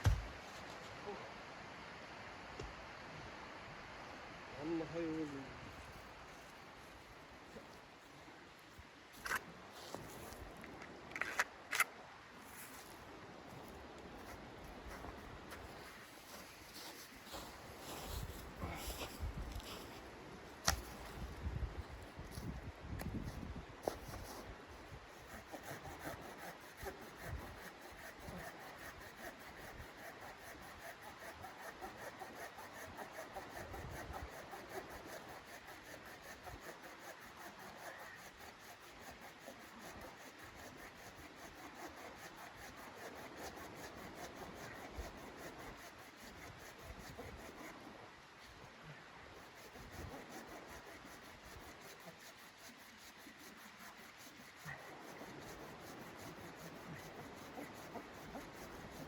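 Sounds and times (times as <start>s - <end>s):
continuous rubbing and scraping: 9.1s - 20.0s, 20.6s - 59.0s.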